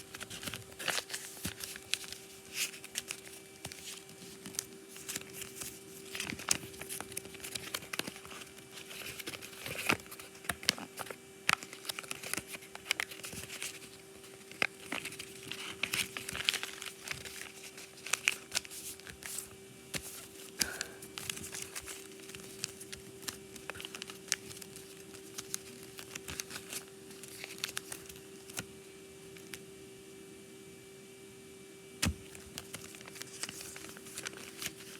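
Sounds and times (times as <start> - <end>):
paper crinkling while folded: 0.0 - 29.6, 32.1 - 34.9.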